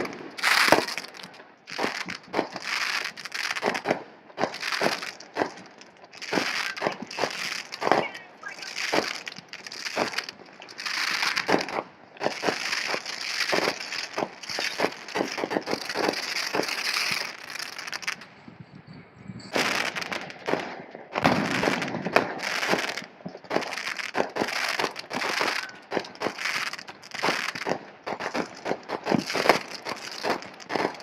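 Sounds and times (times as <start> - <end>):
fireworks crackling and popping: 0.0 - 18.5, 19.4 - 31.0.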